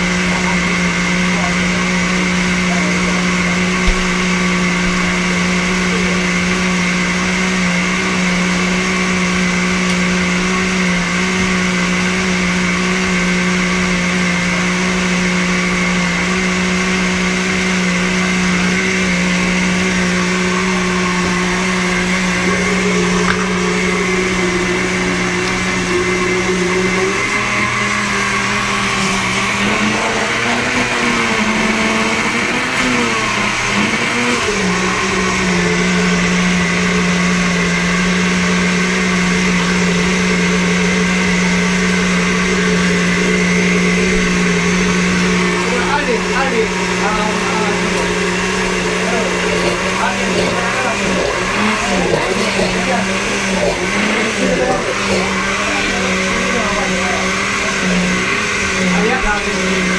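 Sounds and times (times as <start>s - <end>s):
blender motor running: 0.0s - 59.9s.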